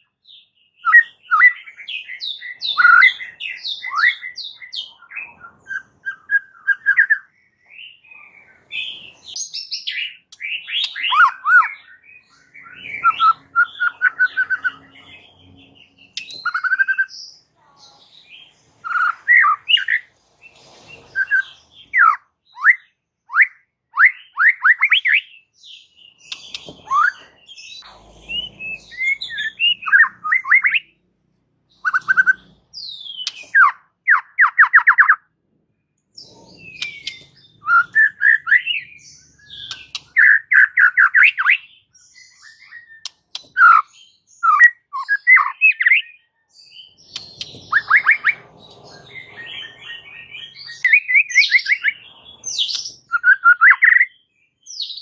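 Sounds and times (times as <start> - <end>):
bird singing whistles and trills: 0.0 - 17.4, 18.3 - 20.1, 21.0 - 30.9, 31.8 - 35.3, 36.2 - 55.0.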